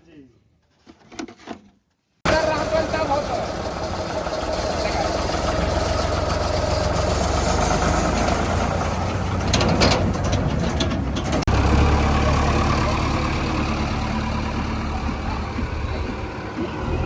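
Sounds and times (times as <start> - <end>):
diesel machinery engine running: 2.3 - 17.0.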